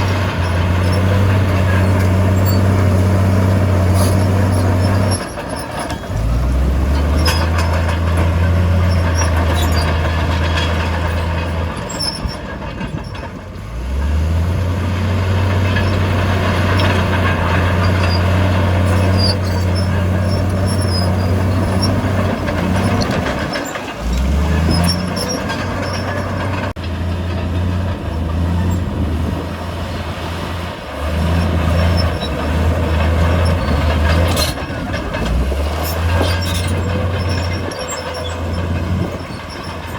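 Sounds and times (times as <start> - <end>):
metallic clanks: 0.0 - 13.5, 15.4 - 29.6, 31.1 - 39.9
bulldozer diesel engine: 0.0 - 39.9.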